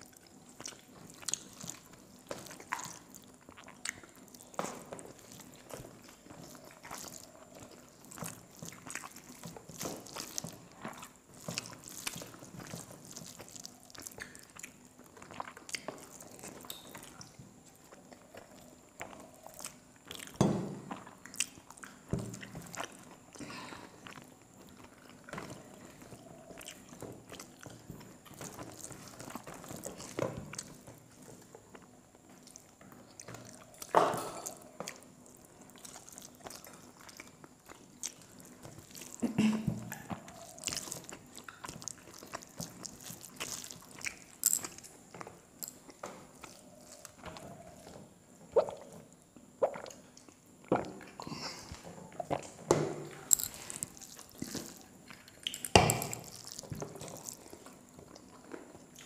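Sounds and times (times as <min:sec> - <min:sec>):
chewing and lip smacks: 0:00.0 - 0:39.2, 0:39.8 - 0:59.0.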